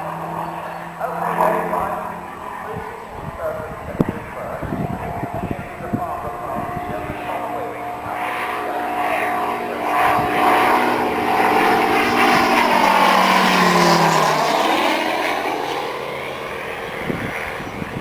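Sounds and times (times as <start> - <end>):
model aircraft engine flying past: 0.0 - 18.0.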